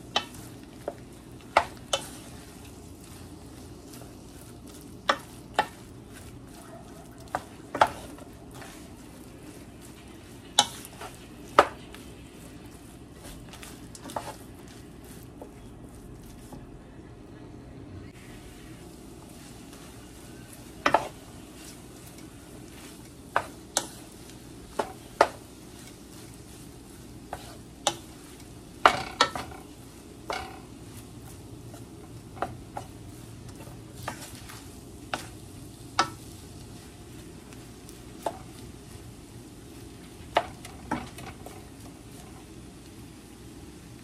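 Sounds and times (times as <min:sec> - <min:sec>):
wooden spoon scraping a pan: 0:00.0 - 0:16.7, 0:19.1 - 0:42.6
low sizzle: 0:00.0 - 0:44.0.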